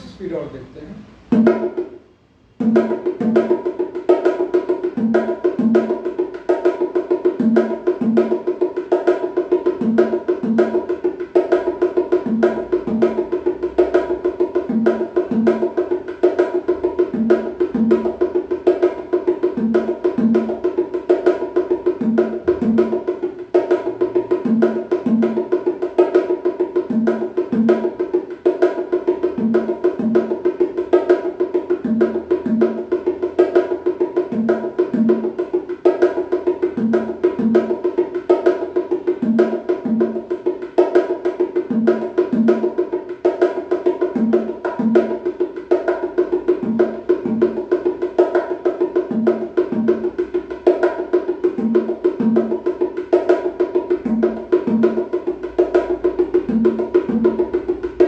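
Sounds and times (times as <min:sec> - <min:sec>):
bongos played by hand: 0:01.2 - 0:58.0.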